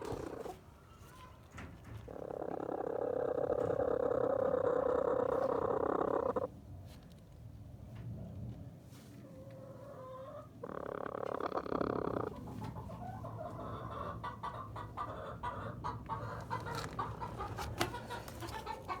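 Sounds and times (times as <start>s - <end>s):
hen clucking: 0.0s - 1.4s, 2.0s - 6.5s, 9.3s - 19.0s.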